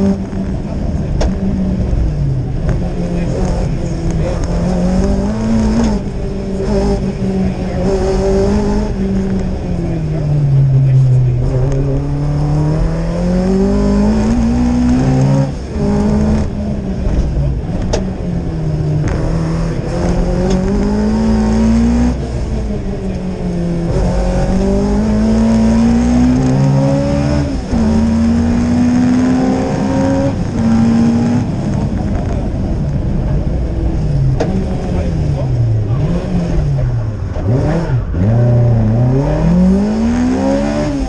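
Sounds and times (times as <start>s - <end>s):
rally car engine revving: 0.0s - 41.0s.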